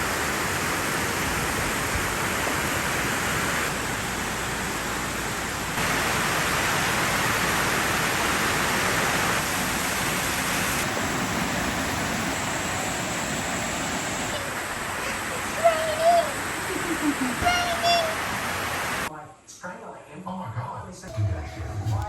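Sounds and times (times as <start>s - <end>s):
heavy rain pouring: 0.0s - 19.1s.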